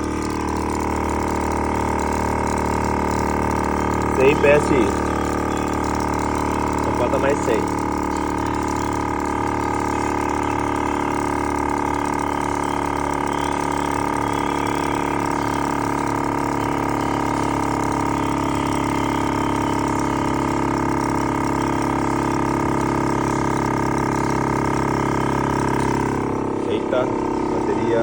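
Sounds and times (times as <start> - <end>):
air compressor motor whining: 0.0 - 28.0.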